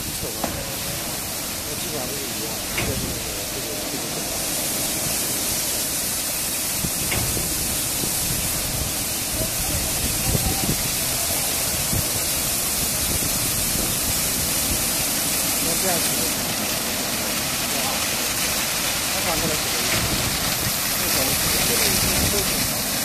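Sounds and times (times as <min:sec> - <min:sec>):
car wash water spray hissing: 0:00.0 - 0:23.0.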